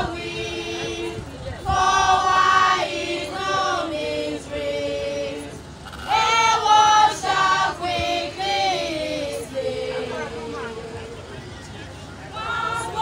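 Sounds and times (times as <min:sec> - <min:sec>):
women's choir singing a hymn: 0:00.0 - 0:11.4, 0:12.2 - 0:13.0.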